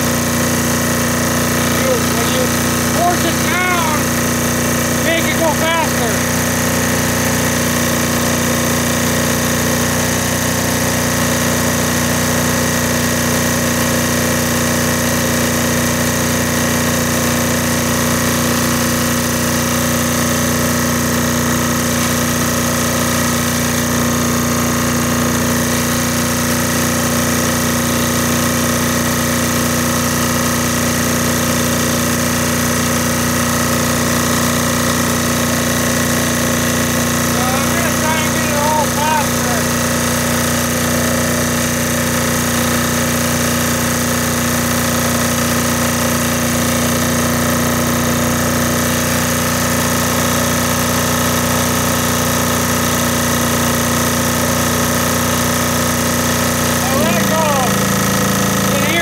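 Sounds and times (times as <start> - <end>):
diesel generator running: 0.0 - 59.0.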